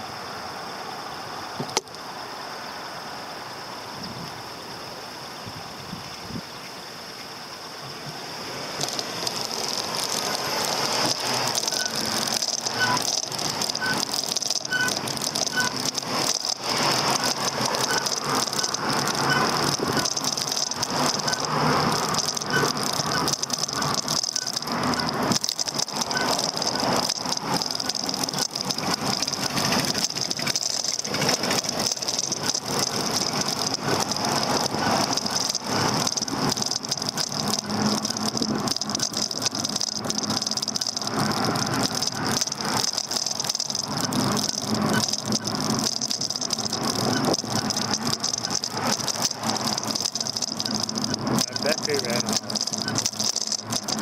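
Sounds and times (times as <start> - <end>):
steady high whine: 0.0 - 54.0
e-bike rattling over road: 1.1 - 2.6, 3.4 - 54.0.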